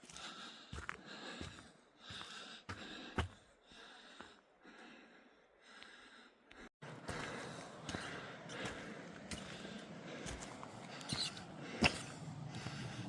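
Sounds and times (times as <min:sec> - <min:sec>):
footsteps on trail: 0:00.0 - 0:04.4, 0:05.8 - 0:13.0
person breathing hard: 0:00.0 - 0:13.0.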